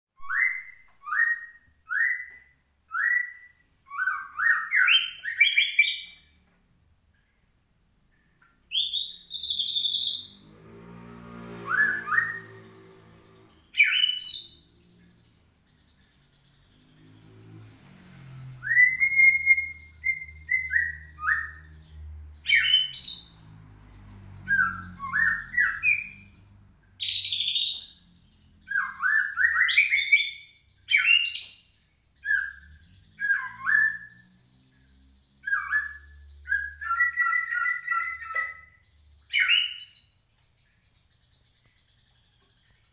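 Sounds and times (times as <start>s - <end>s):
bird chirping and warbling: 0.2s - 42.9s.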